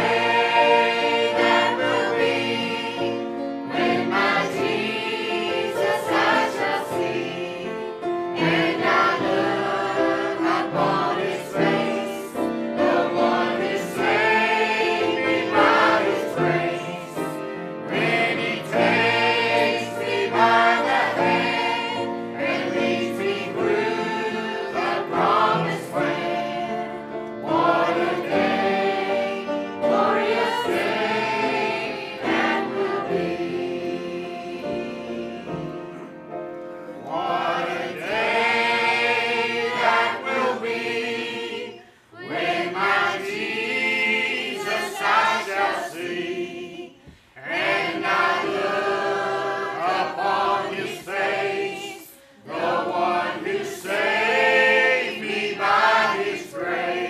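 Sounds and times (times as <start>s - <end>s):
choir singing gospel: 0.0s - 57.0s.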